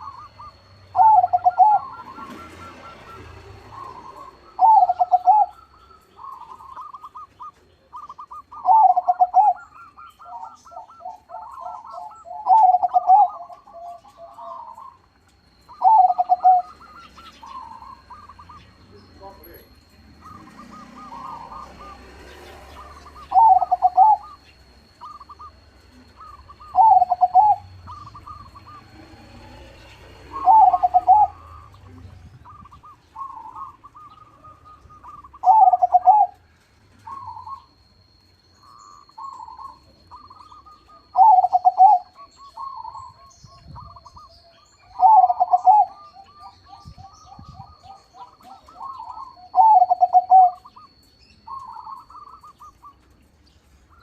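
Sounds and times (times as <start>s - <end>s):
dove cooing: 0.0s - 53.2s.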